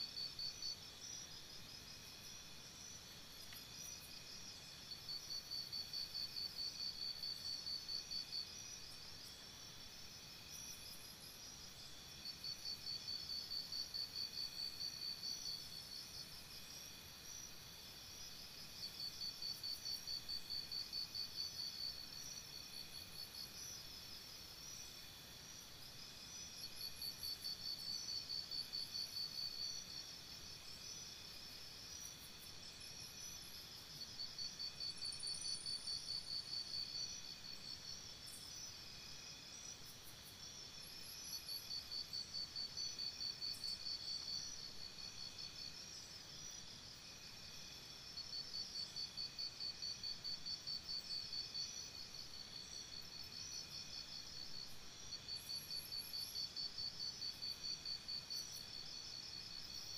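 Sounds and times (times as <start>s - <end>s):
crickets chirping: 0.0s - 59.9s
faint insect hum: 0.0s - 59.9s.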